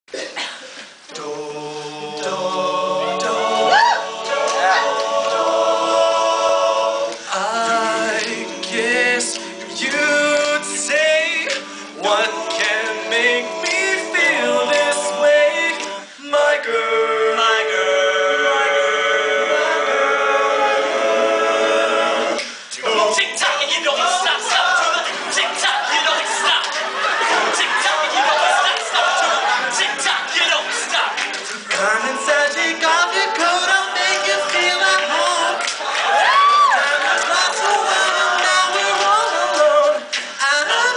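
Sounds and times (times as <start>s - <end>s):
male a cappella harmony singing: 1.1s - 40.9s.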